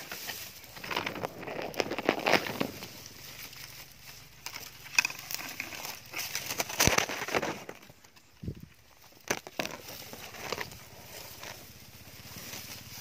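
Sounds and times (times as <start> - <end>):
grass rustling against camera: 0.0 - 13.0.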